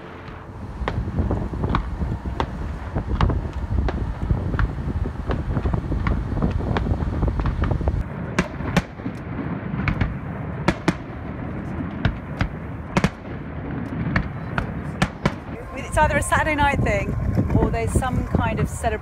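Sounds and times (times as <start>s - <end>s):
low rumble: 0.0s - 8.3s, 9.2s - 19.0s
fireworks bangs and crackles: 0.1s - 19.0s.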